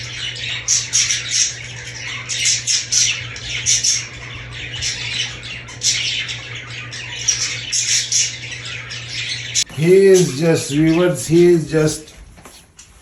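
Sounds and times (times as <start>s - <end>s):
budgerigars chattering: 0.0s - 12.1s.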